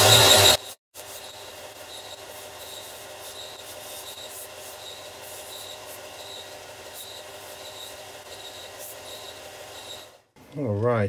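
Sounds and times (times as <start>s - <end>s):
belt sander sanding: 0.0s - 10.2s.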